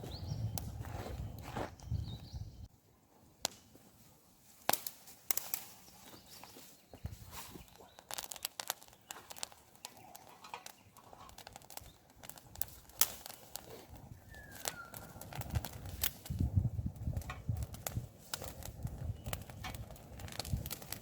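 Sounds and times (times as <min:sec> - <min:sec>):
campfire wood crackling and popping: 0:00.0 - 0:21.0.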